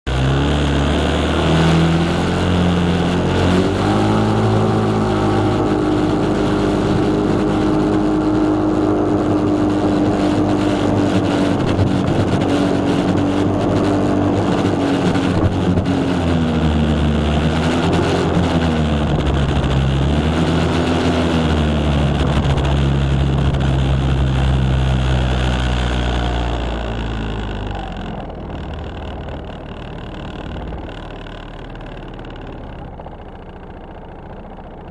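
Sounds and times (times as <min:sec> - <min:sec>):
scooter engine running: 0:00.1 - 0:34.9
wind and road noise: 0:00.1 - 0:34.9.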